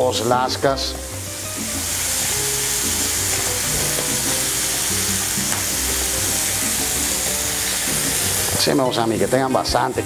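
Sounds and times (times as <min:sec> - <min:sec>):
food sizzling in pans: 0:00.0 - 0:10.0.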